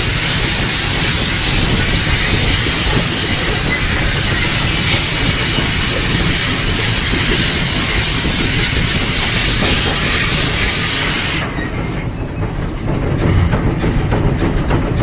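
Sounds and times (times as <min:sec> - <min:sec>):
steam hissing: 0:00.0 - 0:14.3
steam locomotive rumbling: 0:00.0 - 0:15.0.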